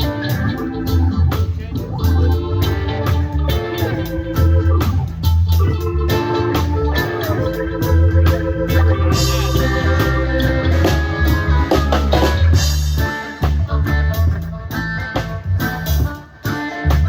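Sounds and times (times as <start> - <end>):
drum kit beat: 0.0 - 17.0
guitar chords: 0.0 - 17.0
heavy bass line: 0.0 - 17.0
organ chords: 0.0 - 17.0.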